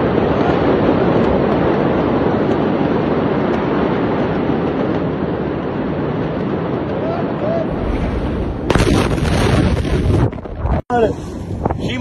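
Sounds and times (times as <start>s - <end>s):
loud rushing rumble: 0.0s - 12.0s.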